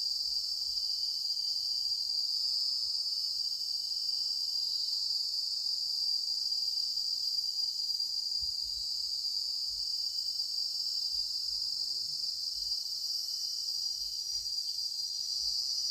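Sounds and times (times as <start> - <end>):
high-pitched insect chorus: 0.0 - 15.9
lower insect tones: 0.0 - 15.9.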